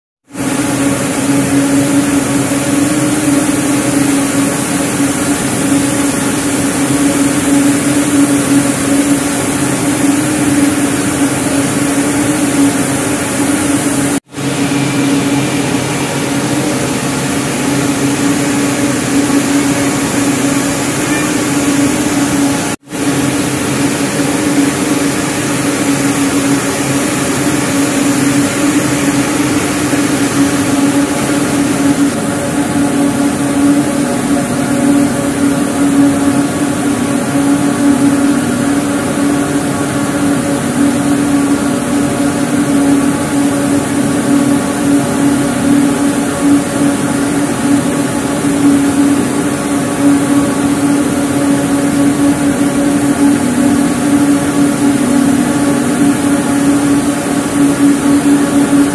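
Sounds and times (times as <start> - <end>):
spinning machines humming: 0.3 - 58.9.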